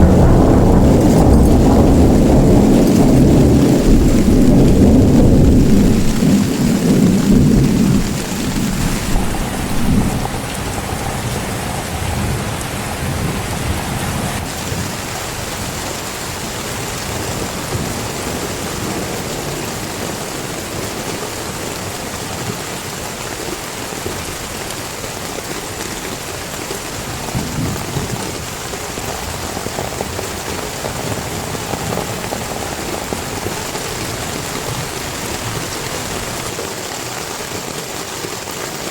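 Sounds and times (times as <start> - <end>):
thunder rumbling: 0.0 - 36.6
heavy rain falling: 0.0 - 38.9.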